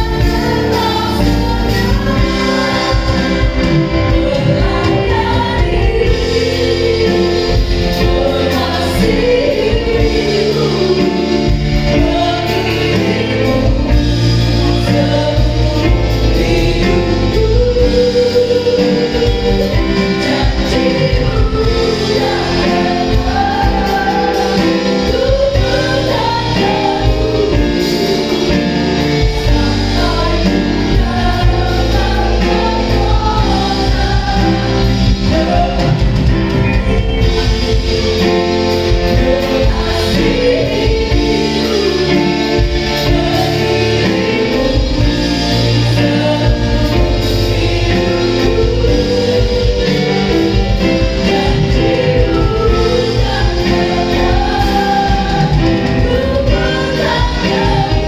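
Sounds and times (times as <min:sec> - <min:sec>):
group singing gospel song: 0:00.0 - 0:58.0
live band playing: 0:00.0 - 0:58.0.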